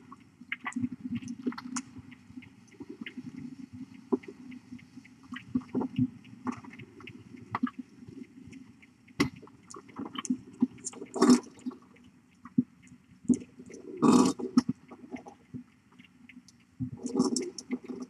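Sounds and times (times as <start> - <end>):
cat licking and grooming: 0.0 - 18.0
sharp tick: 0.0 - 18.0.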